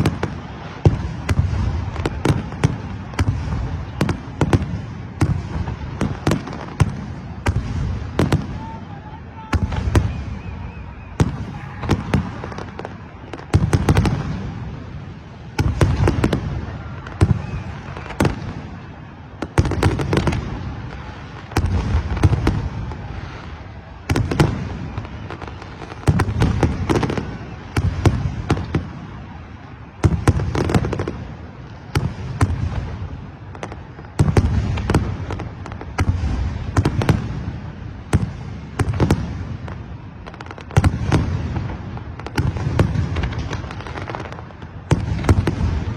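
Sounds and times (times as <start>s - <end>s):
fireworks booming: 0.0s - 45.9s.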